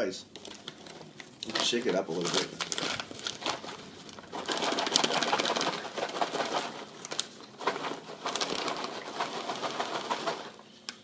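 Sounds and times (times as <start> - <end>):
popcorn rattling in paper bag: 0.4 - 10.6.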